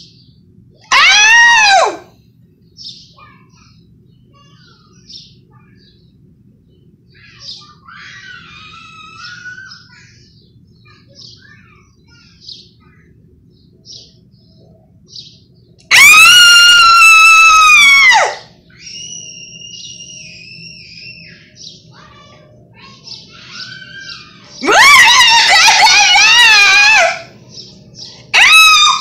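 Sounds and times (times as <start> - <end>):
low background hum: 0.0 - 29.0
songbirds chirping: 0.0 - 29.0.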